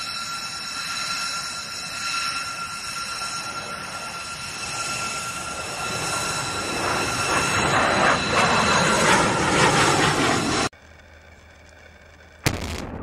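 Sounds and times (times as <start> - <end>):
jet roar rushing: 0.0 - 10.7
jet engine whine: 0.0 - 13.0.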